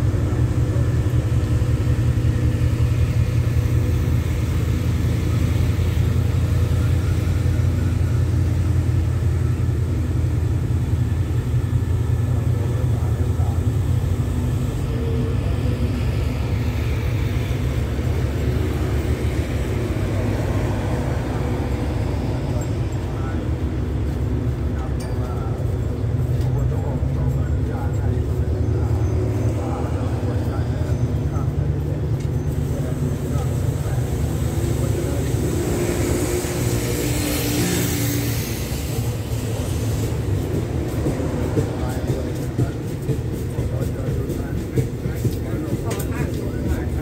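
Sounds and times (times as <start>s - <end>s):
diesel train engine rumble: 0.0s - 47.0s.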